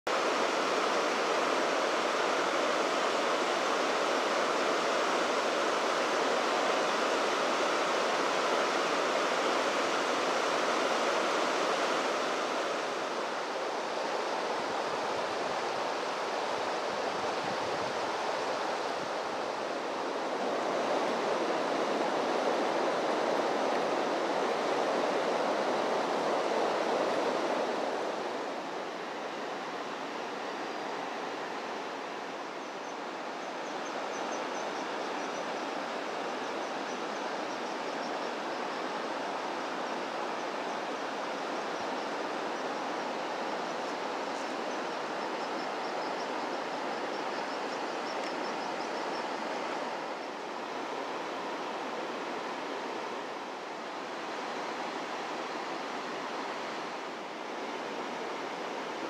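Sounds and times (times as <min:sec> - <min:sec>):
river water rushing over rocks: 0:00.1 - 0:59.0.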